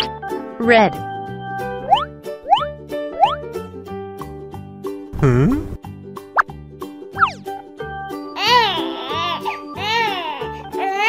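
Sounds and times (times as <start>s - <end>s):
light children's music: 0.0s - 11.0s.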